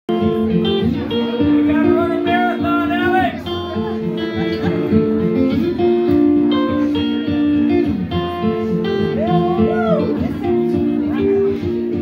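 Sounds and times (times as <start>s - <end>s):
acoustic guitar strumming chords: 0.1s - 12.0s.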